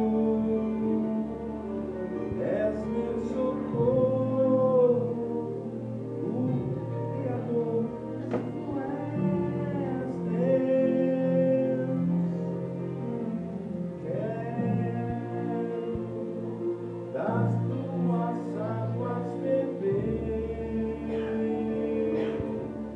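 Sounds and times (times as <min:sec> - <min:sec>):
gospel vocal group singing: 0:00.0 - 0:22.9.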